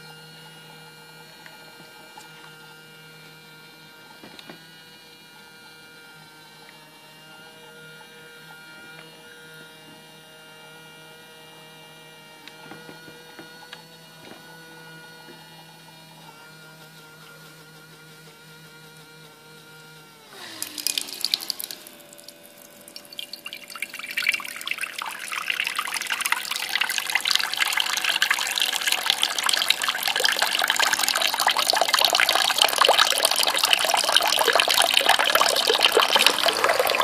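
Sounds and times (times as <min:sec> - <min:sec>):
electric pump motor humming: 0:00.0 - 0:37.0.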